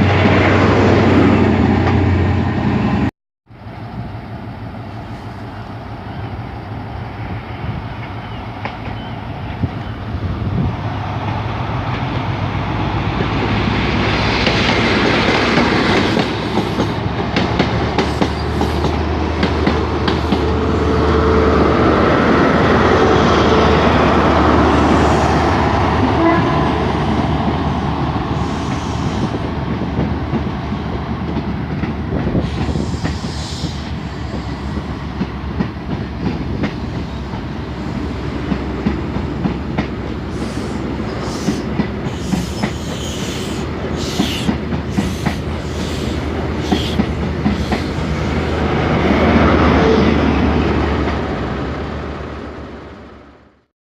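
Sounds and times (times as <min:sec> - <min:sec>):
diesel train engine drone: 0:00.0 - 0:53.7.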